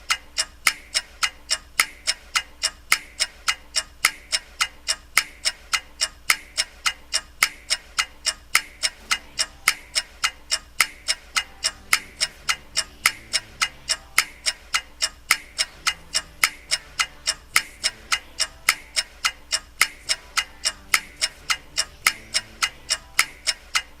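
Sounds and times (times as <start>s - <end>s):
clock ticking: 0.0s - 24.0s.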